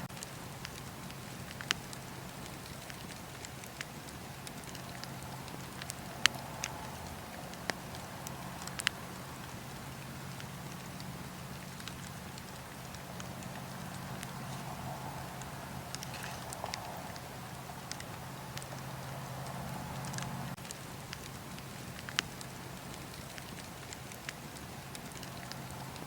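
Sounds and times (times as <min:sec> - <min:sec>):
fire low rumble: 0:00.0 - 0:26.0
fire popping: 0:00.0 - 0:26.0.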